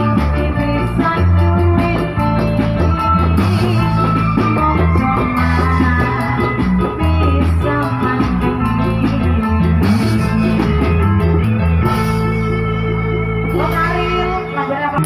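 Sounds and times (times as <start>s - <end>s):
loud music with bass and drums: 0.0s - 15.0s.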